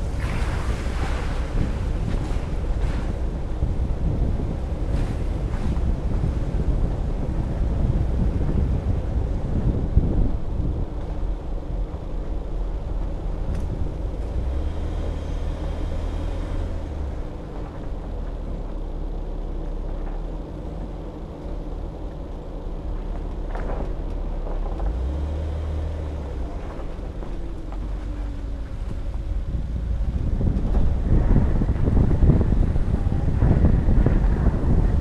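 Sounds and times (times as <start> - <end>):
wind buffeting microphone: 0.0 - 18.8, 22.6 - 35.0
low engine drone: 0.0 - 35.0
tyre and road noise: 0.0 - 35.0.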